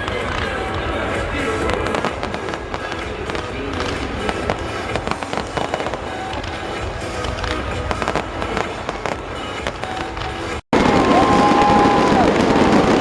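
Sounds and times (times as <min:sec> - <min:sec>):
background music: 0:00.0 - 0:13.0
fireworks cracking and popping: 0:00.0 - 0:13.0.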